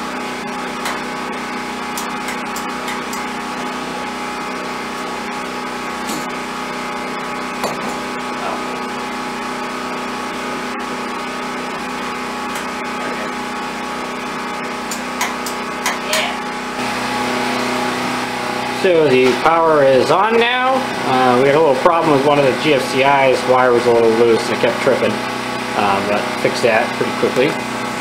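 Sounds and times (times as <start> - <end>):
portable generator running: 0.0 - 28.0.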